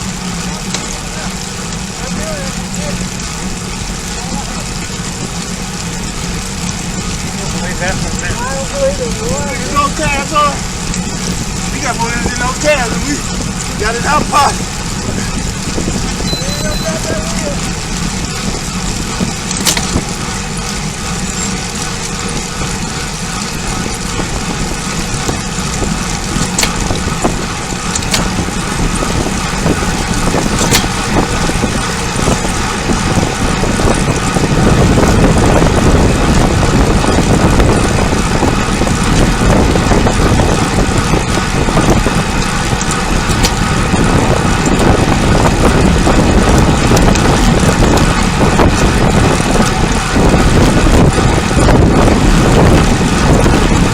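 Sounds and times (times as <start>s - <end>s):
road noise: 0.0s - 53.9s
wind rushing over microphone: 1.8s - 53.9s.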